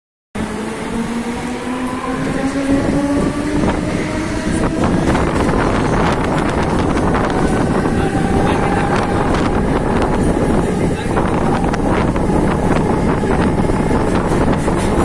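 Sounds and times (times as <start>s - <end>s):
electric train whine: 0.4s - 15.0s
wheels rumbling on track: 0.4s - 15.0s
wind rush on microphone: 0.4s - 15.0s.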